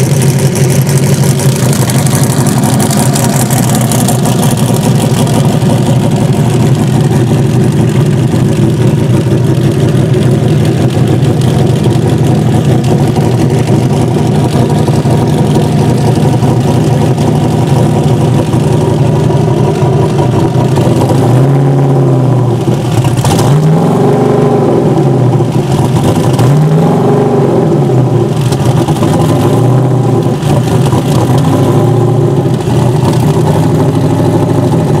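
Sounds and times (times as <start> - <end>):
engine throttle blips: 0.0 - 35.0
race car engine idling: 0.0 - 35.0.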